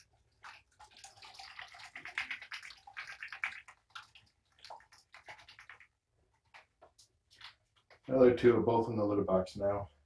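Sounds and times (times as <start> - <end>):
liquid sloshing in shaken bottle: 0.0 - 8.1.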